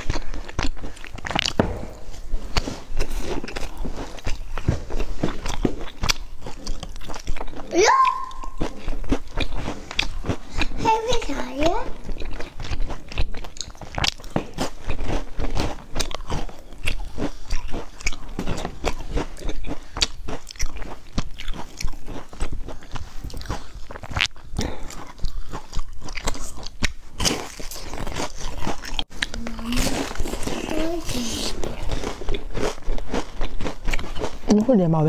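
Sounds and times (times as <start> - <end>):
chewing and crunching biscuits: 0.0 - 1.6, 2.2 - 35.0.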